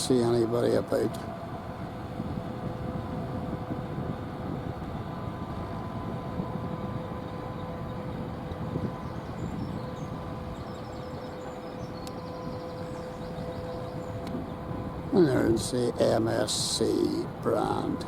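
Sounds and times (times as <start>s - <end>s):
ship machinery rumble and hum: 0.0s - 18.0s.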